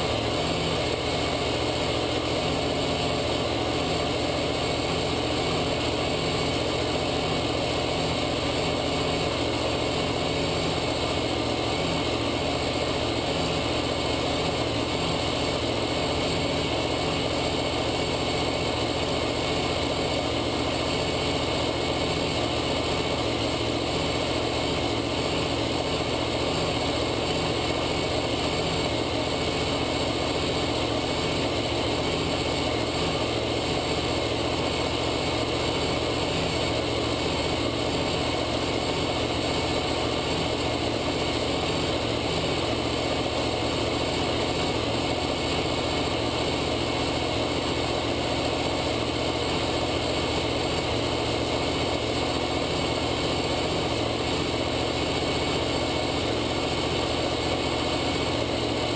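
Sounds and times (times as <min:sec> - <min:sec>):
race engine idling: 0:00.0 - 0:58.9.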